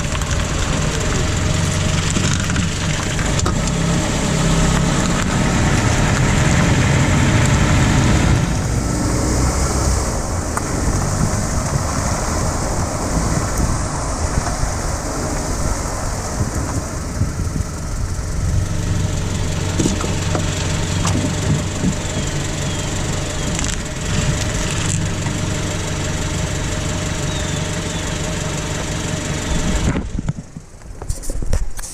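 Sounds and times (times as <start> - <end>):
car engine running: 0.0 - 31.1.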